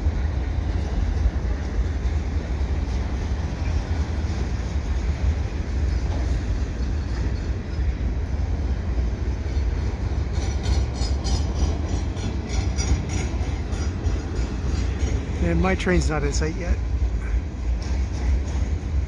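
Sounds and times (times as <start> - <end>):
freight train rumbling past: 0.0 - 19.0
train wheels clicking: 0.2 - 19.0.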